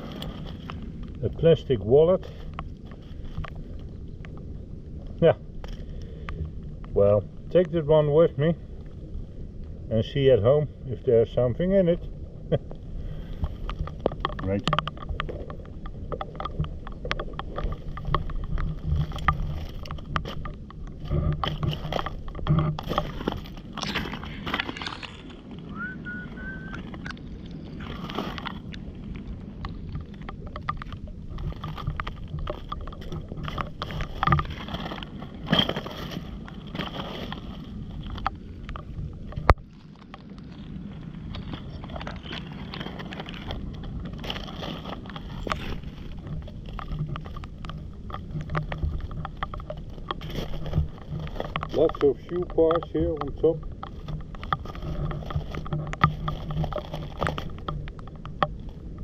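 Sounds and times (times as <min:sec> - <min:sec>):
stones crunching and scraping: 0:00.0 - 0:08.9, 0:11.1 - 0:59.0
rough low rumble: 0:00.0 - 0:59.0.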